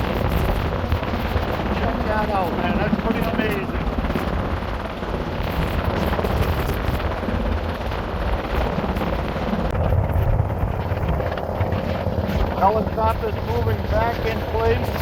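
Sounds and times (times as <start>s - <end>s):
helicopter hovering: 0.0s - 15.0s
wind buffeting microphone: 0.0s - 15.0s.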